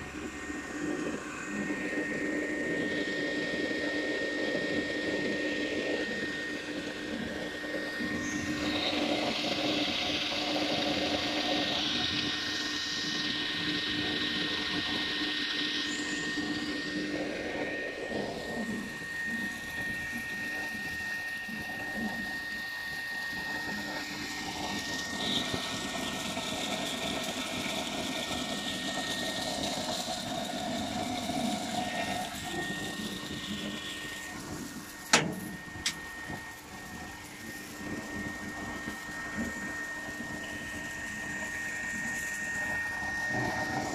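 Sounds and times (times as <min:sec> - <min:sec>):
machine running with motor whine: 0:00.0 - 0:43.9.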